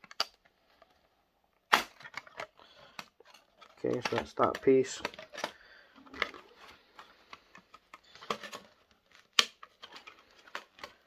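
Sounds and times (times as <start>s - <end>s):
snips cracking plastic: 0.0s - 0.5s, 1.6s - 11.0s.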